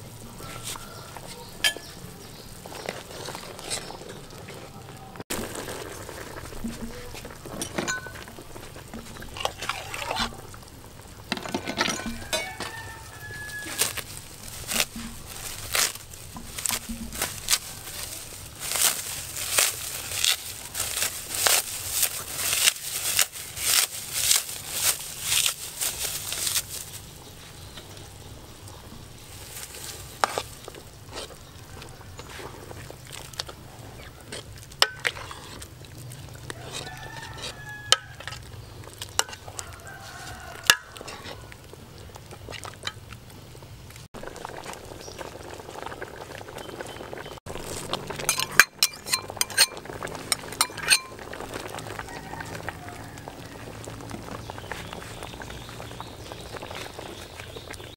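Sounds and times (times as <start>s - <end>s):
soup boiling in a pot: 0.0s - 57.9s
clicks and crackles: 0.7s - 27.0s, 27.7s - 57.9s.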